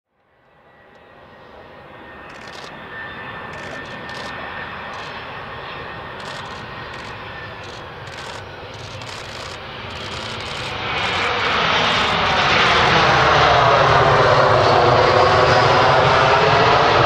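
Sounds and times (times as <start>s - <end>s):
jet engine rumble and whine: 0.2s - 17.0s.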